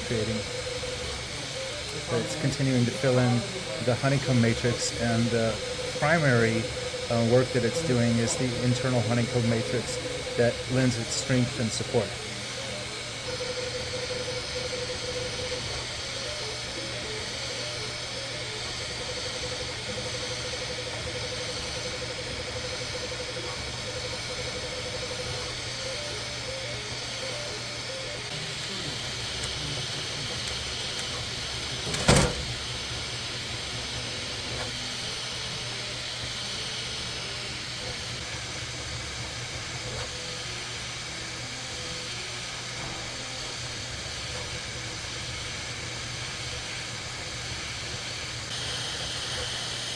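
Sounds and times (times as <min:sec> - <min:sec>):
printer fan noise: 0:00.0 - 0:49.9
stepper motors whining: 0:00.0 - 0:49.9.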